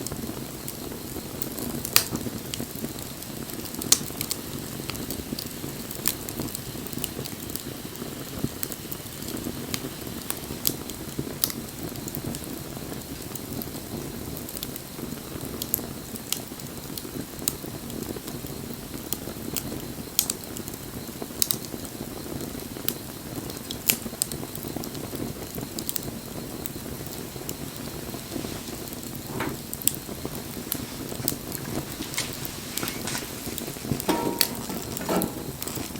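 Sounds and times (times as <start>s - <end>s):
burning wood crackling and popping: 0.0s - 35.9s.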